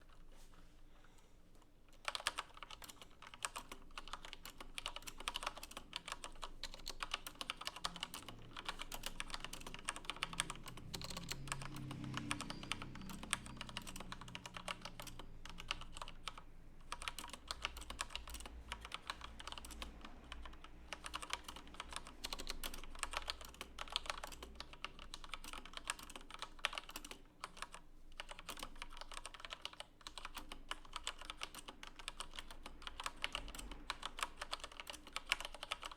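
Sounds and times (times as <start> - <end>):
mechanical keyboard typing: 1.9 - 35.9.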